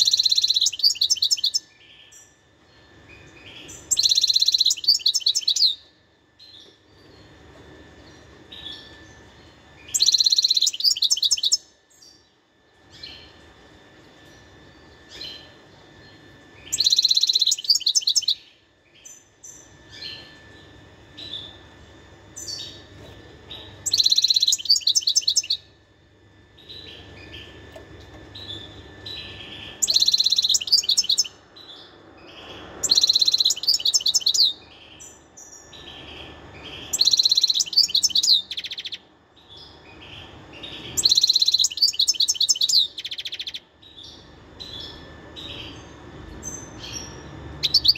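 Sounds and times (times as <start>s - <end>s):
goldfinch twittering song: 0.0s - 5.8s, 8.0s - 12.2s, 14.3s - 21.6s, 23.6s - 25.7s, 26.6s - 47.9s.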